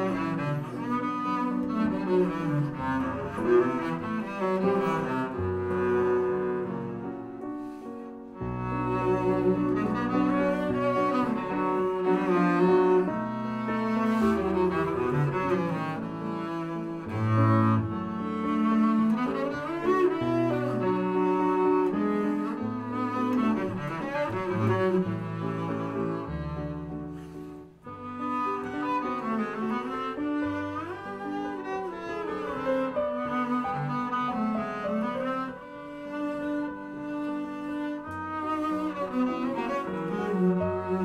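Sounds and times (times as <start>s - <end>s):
bowed double bass: 0.0s - 41.0s.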